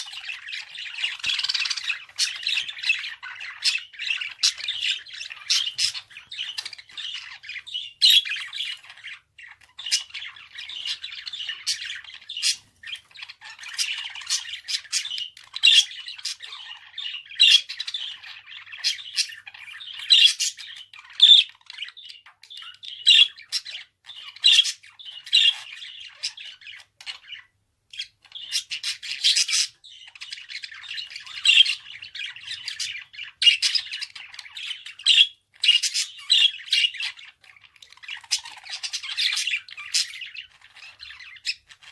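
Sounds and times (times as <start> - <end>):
budgerigar warbling and chattering: 0.0 - 41.9.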